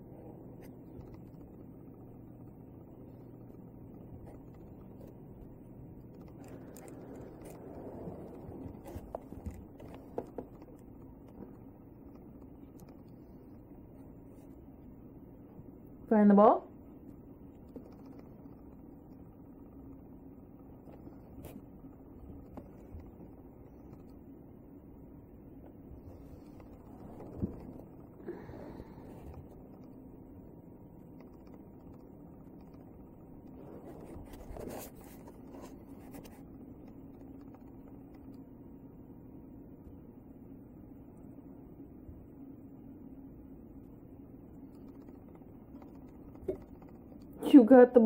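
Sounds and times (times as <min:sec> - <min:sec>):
low steady room hum: 0:00.0 - 0:48.0.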